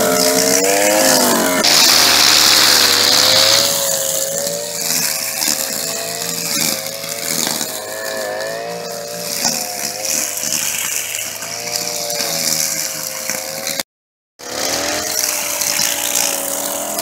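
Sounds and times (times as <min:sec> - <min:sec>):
string trimmer engine running: 0:00.0 - 0:13.8, 0:14.4 - 0:17.0.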